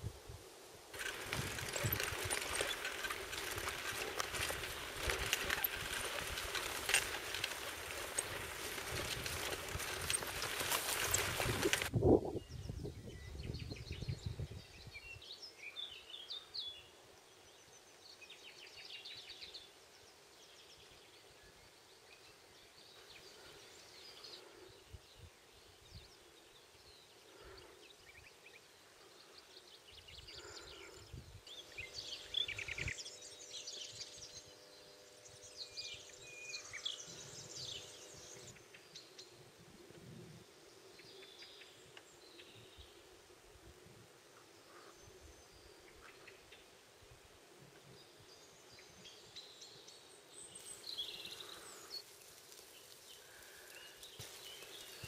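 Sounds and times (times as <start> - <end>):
small birds chirping and trilling: 1.0 - 43.3, 44.3 - 55.0.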